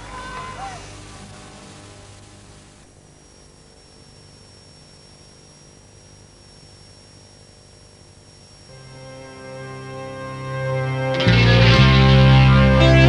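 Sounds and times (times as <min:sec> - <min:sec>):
electrical mains hum and hiss: 0:00.0 - 0:13.0
high-pitched whine: 0:00.0 - 0:13.0.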